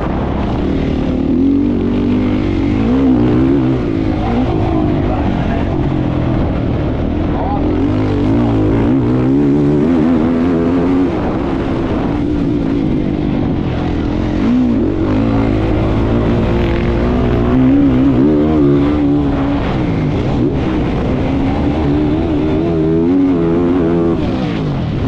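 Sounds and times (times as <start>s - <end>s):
racing engine revving: 0.0s - 25.0s.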